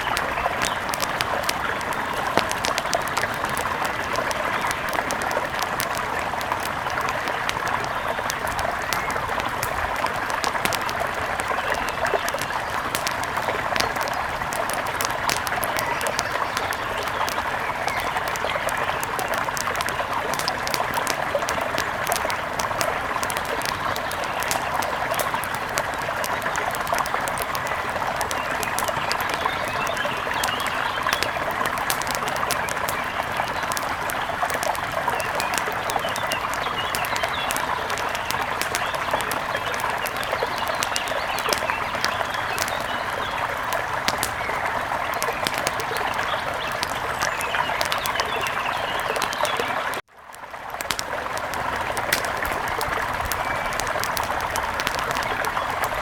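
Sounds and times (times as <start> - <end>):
small birds chirping: 0.0 - 50.0, 50.8 - 56.0
fire crackling: 0.0 - 56.0
flowing river water: 0.0 - 56.0.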